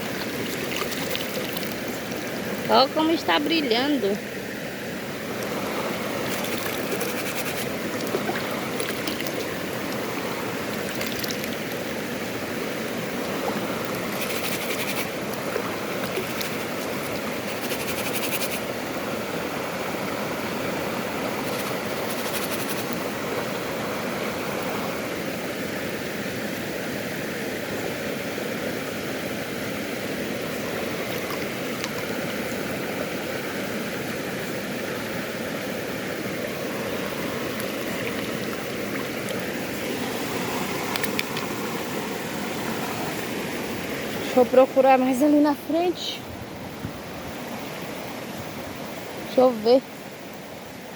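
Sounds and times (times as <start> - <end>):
waterfall and stream rushing: 0.0 - 50.9.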